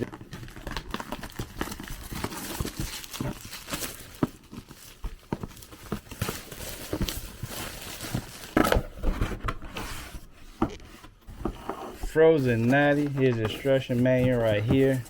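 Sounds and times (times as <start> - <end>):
cardboard packaging rustling: 0.0 - 15.0.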